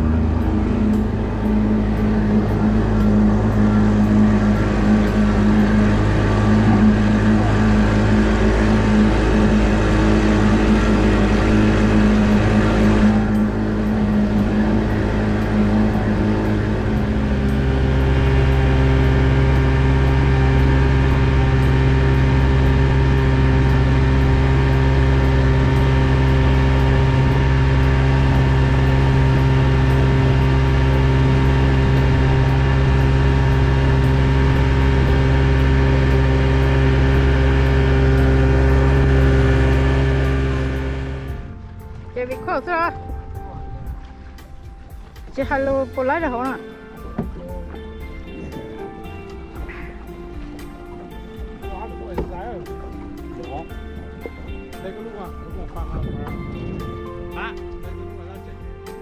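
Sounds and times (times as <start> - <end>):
outboard motor running: 0.0 - 59.0
rushing water and wind: 0.0 - 59.0.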